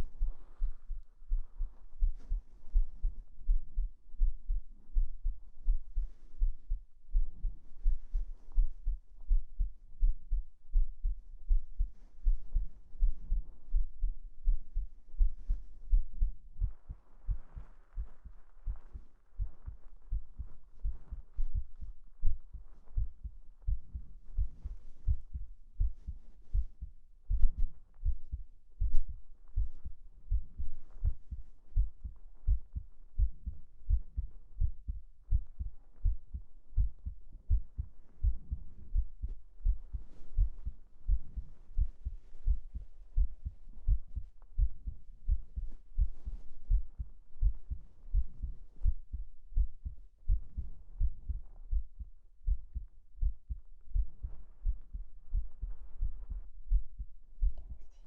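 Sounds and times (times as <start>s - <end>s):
heartbeat thumps: 0.0s - 58.0s.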